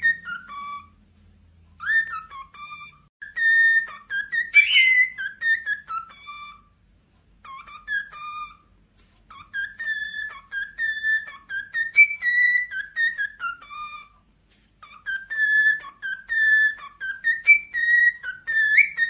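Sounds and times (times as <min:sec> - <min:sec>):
cockatiel whistling song: 0:00.0 - 0:06.8, 0:07.4 - 0:19.0.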